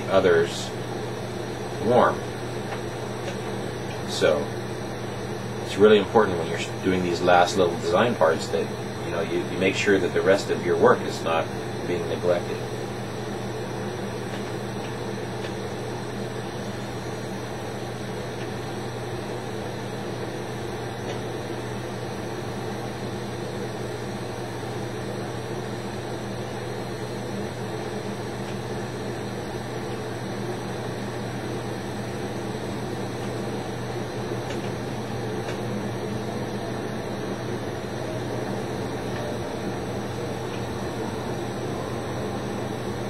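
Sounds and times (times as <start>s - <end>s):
low even hum: 0.0s - 43.0s
torch flame hissing: 0.0s - 43.0s.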